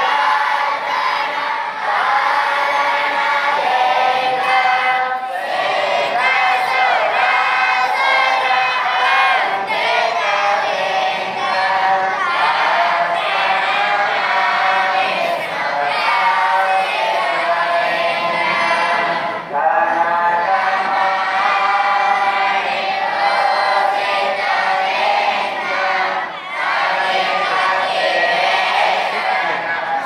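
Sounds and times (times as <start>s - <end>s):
boys chanting in unison: 0.0s - 30.0s.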